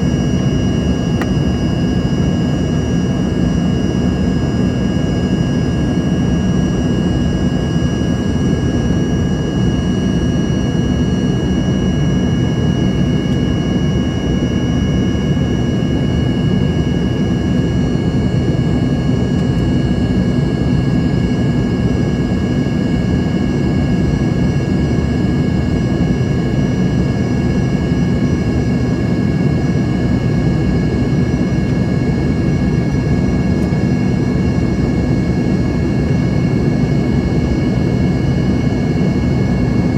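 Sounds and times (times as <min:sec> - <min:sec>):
high steady engine whine: 0:00.0 - 0:39.9
jet engine low rumble: 0:00.0 - 0:39.9.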